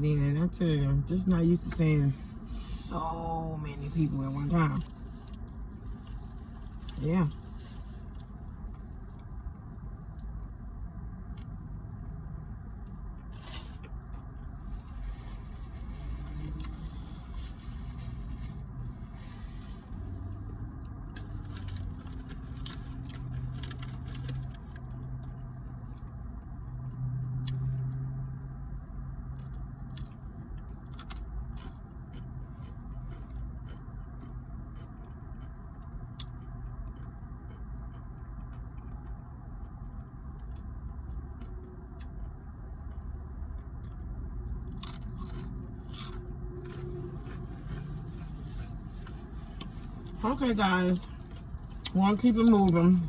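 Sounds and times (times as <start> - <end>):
steady low rumble: 0.0 - 53.0
person chewing and crunching: 1.6 - 26.1, 29.3 - 53.0.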